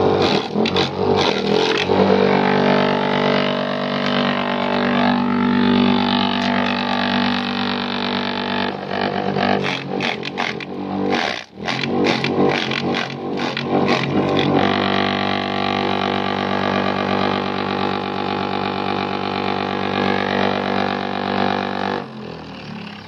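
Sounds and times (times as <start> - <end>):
chopper machine droning: 0.0 - 23.0.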